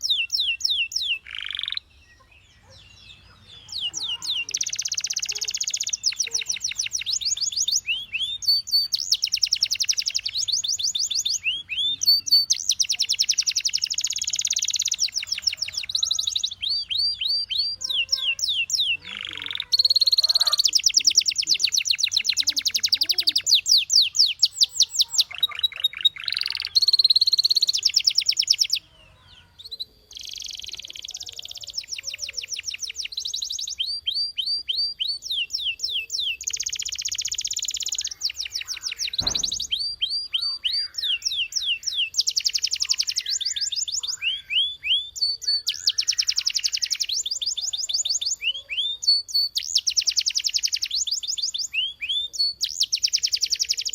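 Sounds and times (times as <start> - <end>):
canary singing in fast trills: 0.0 - 53.9.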